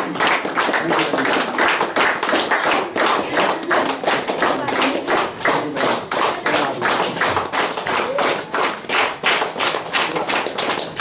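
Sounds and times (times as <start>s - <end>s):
people clapping in rhythm: 0.0s - 11.0s.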